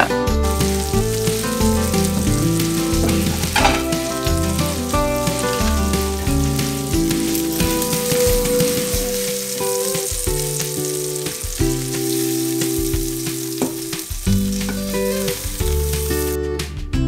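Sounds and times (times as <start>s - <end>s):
patties sizzling in oil: 0.0s - 16.4s
background music with held chords: 0.0s - 17.0s
spatula tapping a pan: 0.5s - 16.1s
spatula scraping a skillet: 0.6s - 16.4s.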